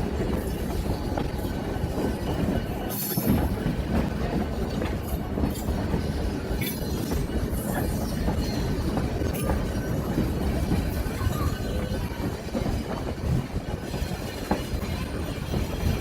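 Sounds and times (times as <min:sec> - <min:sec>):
train rumbling on track: 0:00.0 - 0:16.0
wheel and rail clicks: 0:00.0 - 0:16.0.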